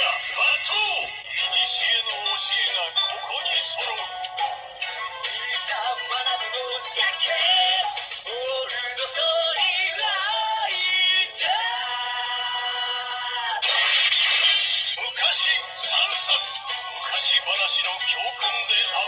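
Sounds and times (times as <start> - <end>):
toy electronic sung chant over music: 0.0 - 19.0.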